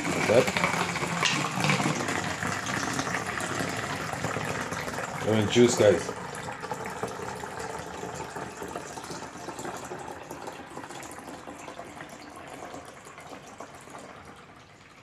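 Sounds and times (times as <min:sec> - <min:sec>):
juice pouring into plastic bottle: 0:00.0 - 0:15.0.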